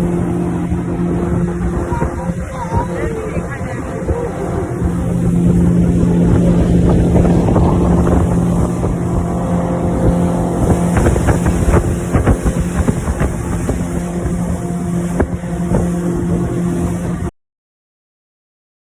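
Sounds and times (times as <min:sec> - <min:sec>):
motorboat engine running: 0:00.0 - 0:17.3
wind buffeting microphone: 0:00.0 - 0:17.3.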